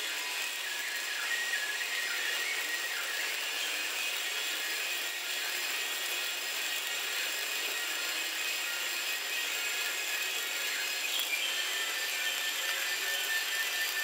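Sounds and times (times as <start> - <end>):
welding arc crackling: 0.0 - 14.0.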